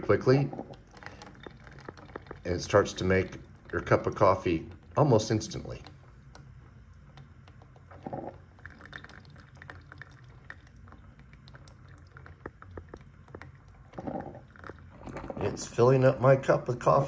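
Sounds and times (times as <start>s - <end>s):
coffee maker hum: 0.0s - 17.0s
coffee trickling into cup: 0.0s - 17.0s.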